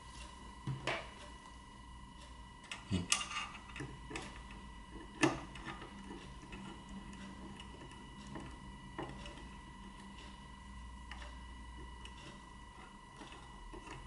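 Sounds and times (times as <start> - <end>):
faint high hum: 0.0 - 14.0.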